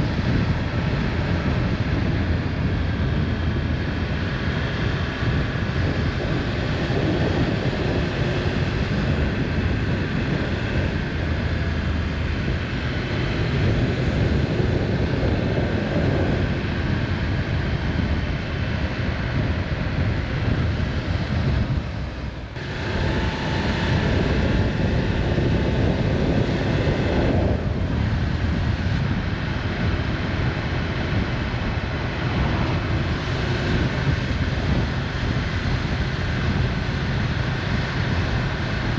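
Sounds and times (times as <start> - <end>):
motorcycle engine at speed: 0.0 - 38.9
wind noise: 0.0 - 38.9.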